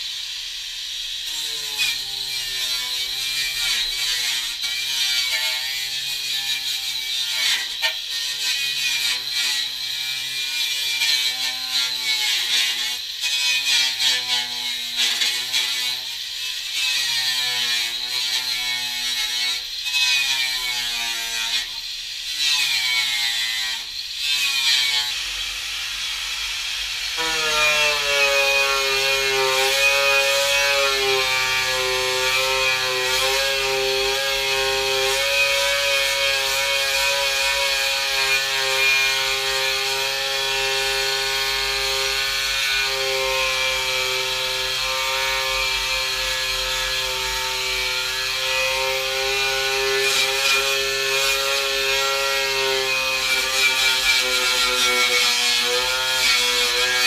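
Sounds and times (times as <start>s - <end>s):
electric power tool on metal: 0.0s - 57.0s.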